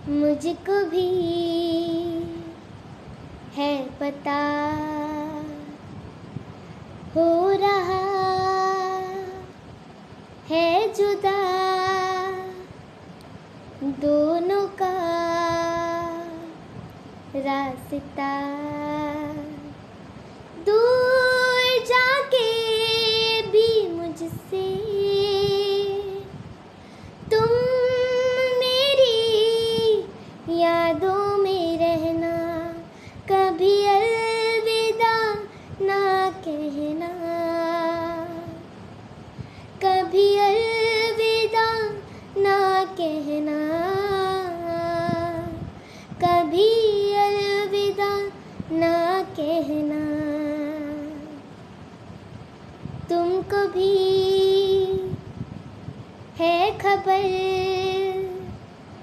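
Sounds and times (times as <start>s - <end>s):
girl singing unaccompanied: 0.0s - 59.0s.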